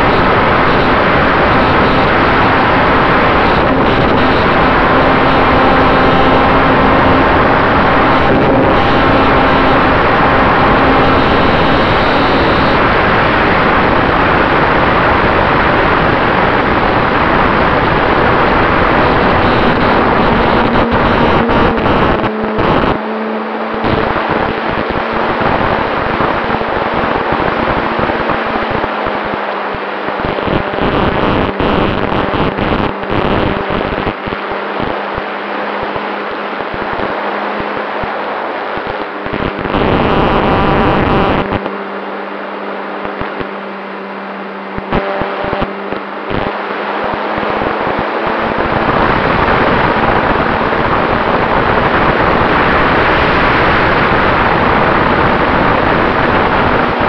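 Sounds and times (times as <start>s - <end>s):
model airplane engine drone: 0.0s - 57.0s
wind rush on microphone: 0.0s - 57.0s.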